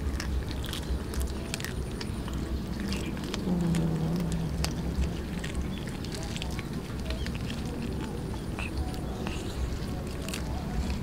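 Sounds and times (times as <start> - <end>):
cats chewing raw fish: 0.0 - 11.0
low drawn-out hum: 0.0 - 11.0
teeth clicking on bone: 0.0 - 11.0.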